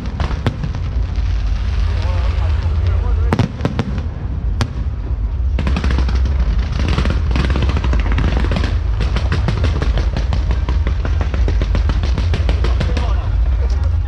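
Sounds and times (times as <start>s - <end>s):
firecrackers crackling: 0.0s - 14.0s
low rumble: 0.0s - 14.0s.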